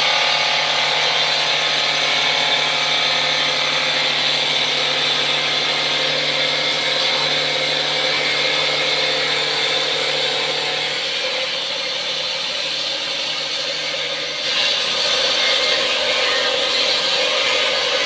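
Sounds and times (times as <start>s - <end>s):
cutter working wood: 0.0s - 18.0s
lathe motor hum: 0.0s - 18.0s.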